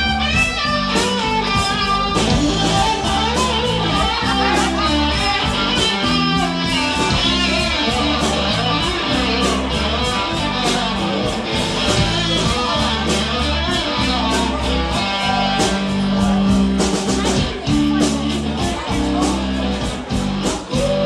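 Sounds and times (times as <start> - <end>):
bass guitar: 0.0 - 21.0
drum cymbal beat: 0.0 - 21.0
electric guitar: 0.0 - 21.0.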